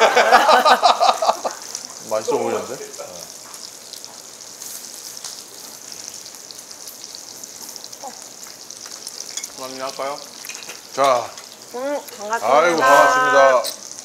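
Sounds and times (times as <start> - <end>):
meat sizzling on a grill plate: 0.0 - 14.0.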